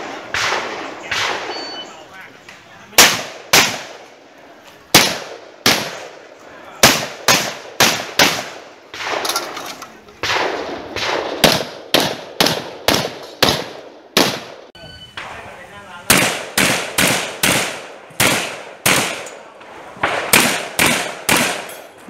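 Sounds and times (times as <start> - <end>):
shotgun shots echoing: 0.0 - 2.1, 2.9 - 4.2, 4.9 - 15.5, 16.1 - 21.8.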